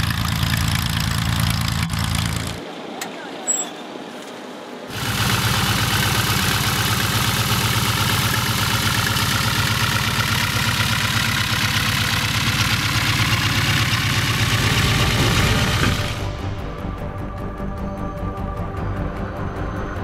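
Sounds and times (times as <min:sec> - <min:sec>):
radial aircraft engine rumbling: 0:00.0 - 0:20.0.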